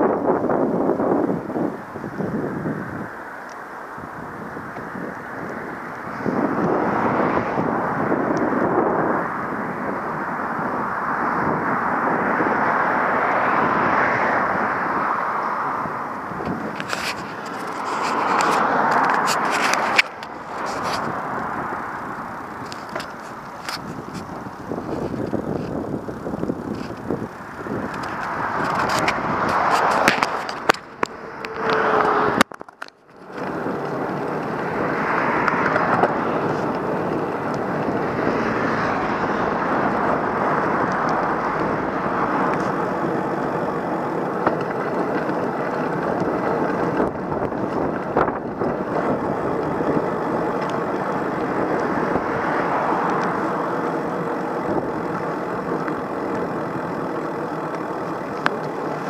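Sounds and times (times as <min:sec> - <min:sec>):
vehicle moving: 0:00.0 - 0:59.0.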